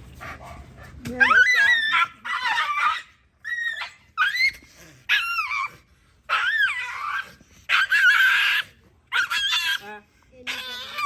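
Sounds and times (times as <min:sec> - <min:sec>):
dog whining yelps: 0:01.2 - 0:09.9, 0:10.5 - 0:11.0.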